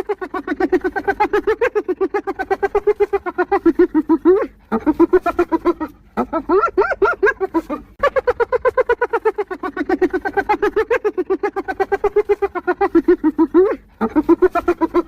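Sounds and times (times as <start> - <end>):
hyena giggling yelps: 0.0 - 15.0.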